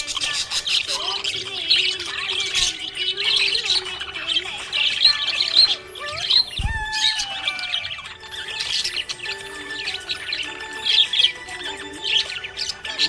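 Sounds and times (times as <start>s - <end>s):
budgies chirping and warbling: 0.0s - 13.0s.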